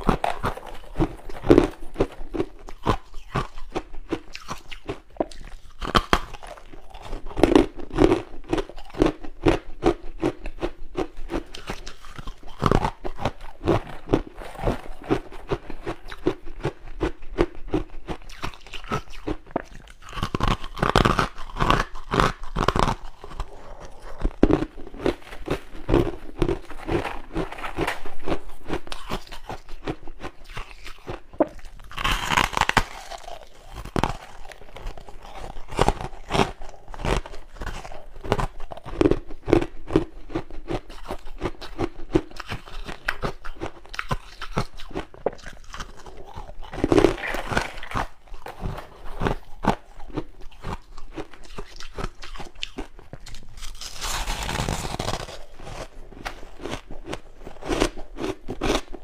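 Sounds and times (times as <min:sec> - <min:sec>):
chewing crunchy frost: 0:00.0 - 0:59.0.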